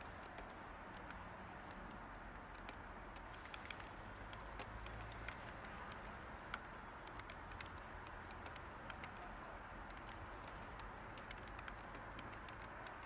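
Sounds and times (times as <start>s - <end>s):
background white noise hiss: 0.0s - 13.0s
computer keyboard typing: 0.0s - 13.0s.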